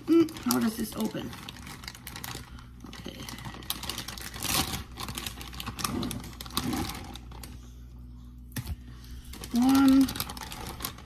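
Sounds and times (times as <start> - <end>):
plastic packaging crackling: 0.0 - 7.8, 8.5 - 11.0.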